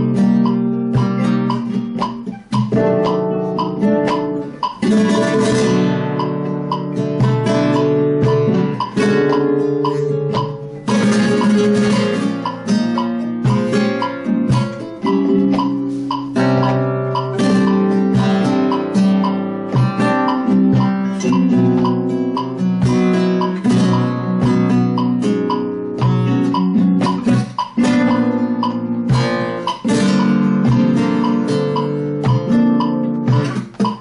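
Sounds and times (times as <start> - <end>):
flamenco guitar playing: 0.0 - 34.0.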